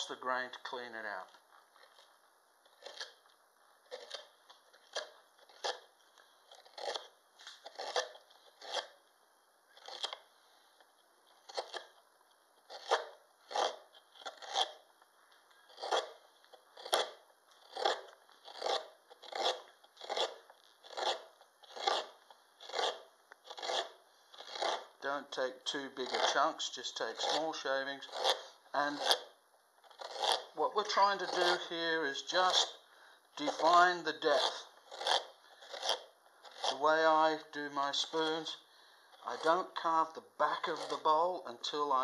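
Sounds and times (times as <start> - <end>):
gouge cutting wood shavings: 2.7 - 3.2, 3.8 - 5.9, 6.5 - 9.0, 9.7 - 10.2, 11.4 - 12.0, 12.6 - 14.8, 15.7 - 32.8, 33.4 - 41.4.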